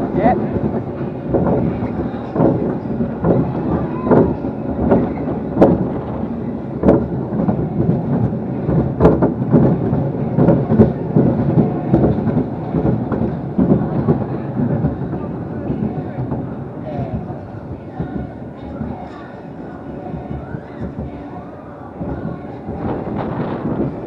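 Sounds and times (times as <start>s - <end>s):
ride car rumbling along track: 0.0s - 24.0s.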